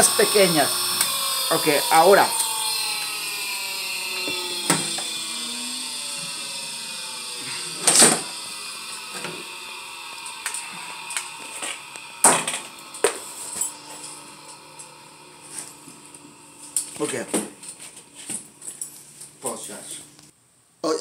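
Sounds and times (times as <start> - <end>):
grinder motor winding down: 0.0 - 20.3.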